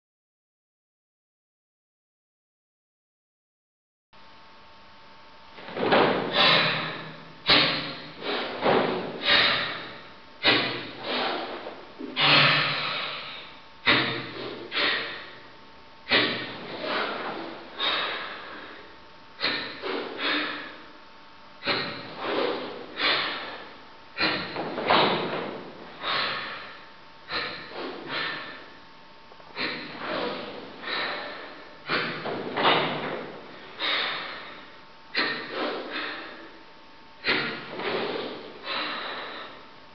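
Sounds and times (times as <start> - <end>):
forceful hissing breaths: 5.9 - 20.9, 21.6 - 28.8, 29.4 - 39.8.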